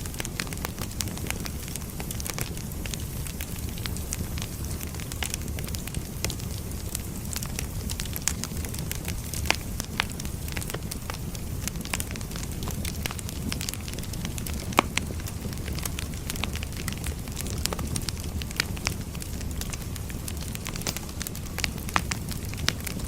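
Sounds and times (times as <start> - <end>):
burning wood crackling and popping: 0.0 - 23.0
flames rumbling: 0.0 - 23.0.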